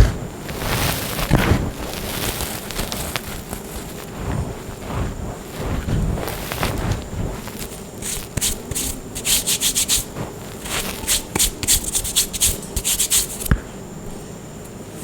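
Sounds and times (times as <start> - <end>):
chalk crunching and rubbing: 0.0 - 13.6.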